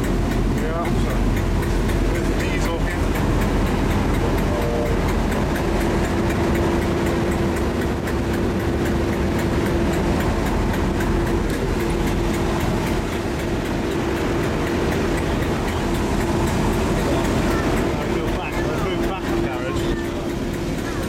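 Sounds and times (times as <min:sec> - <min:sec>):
diesel engine humming: 0:00.0 - 0:21.0
train wheels rumbling on track: 0:00.0 - 0:21.0.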